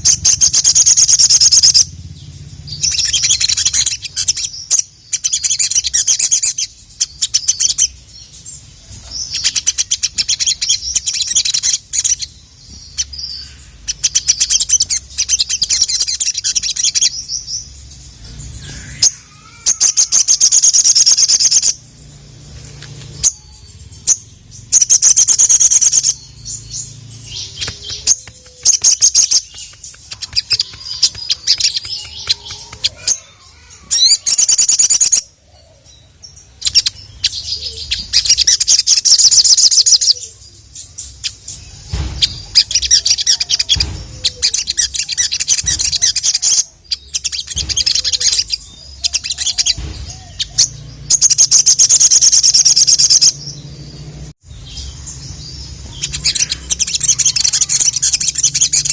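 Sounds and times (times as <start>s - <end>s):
bird chattering trills: 0.0s - 22.1s, 23.1s - 58.9s.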